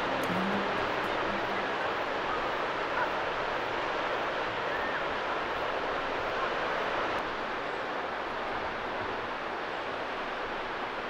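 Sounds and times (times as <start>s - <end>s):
sea surf: 0.0s - 11.0s
wind: 0.0s - 11.0s.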